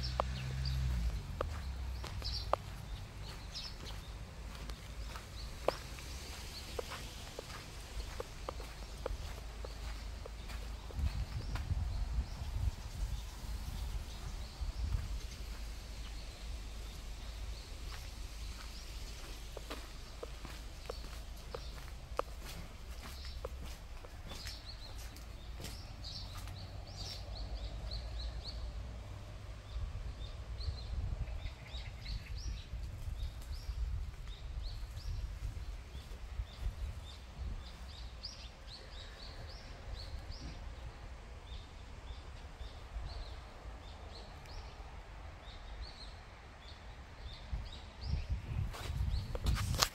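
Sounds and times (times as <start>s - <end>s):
low outdoor rumble: 0.0s - 49.5s
small birds chirping: 0.0s - 49.9s.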